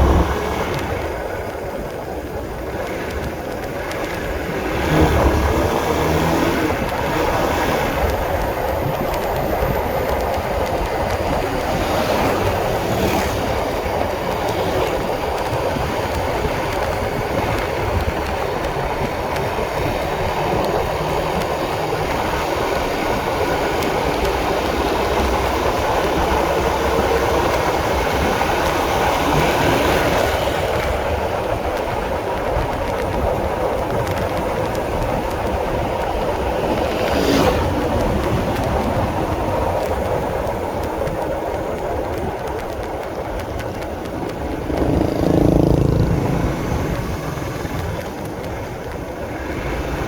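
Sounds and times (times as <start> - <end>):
motorcycle engine rumble: 0.0 - 50.0
road noise: 0.0 - 50.0
wind on microphone: 0.0 - 50.0.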